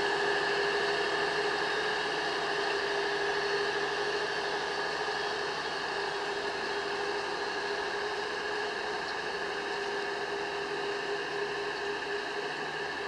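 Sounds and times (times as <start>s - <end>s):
train machinery hum and whine: 0.0s - 13.0s.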